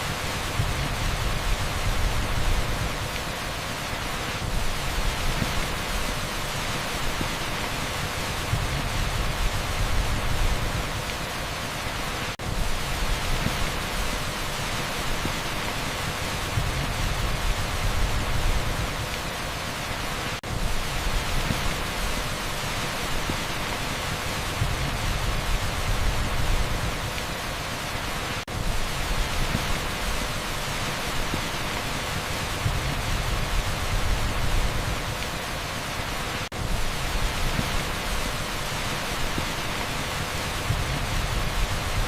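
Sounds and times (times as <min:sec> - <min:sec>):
heavy rain on pavement: 0:00.0 - 0:42.0.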